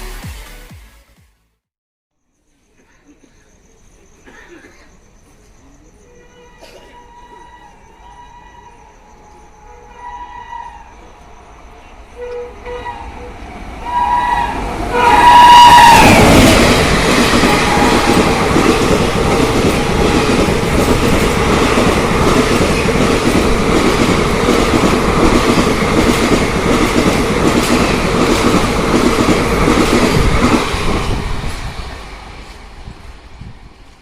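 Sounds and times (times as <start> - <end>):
train coaches rushing past: 4.6 - 34.0.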